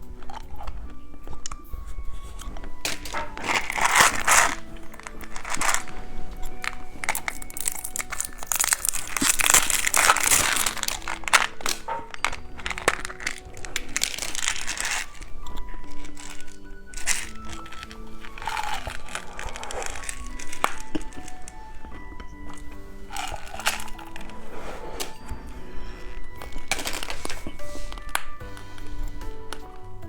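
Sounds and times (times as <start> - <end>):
plastic candy wrapper crinkling: 0.0 - 29.8
soft background music: 0.0 - 30.0.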